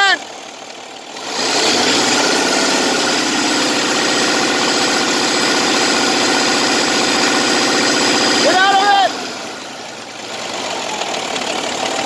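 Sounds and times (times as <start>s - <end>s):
diesel truck engine revving high: 1.0s - 12.0s.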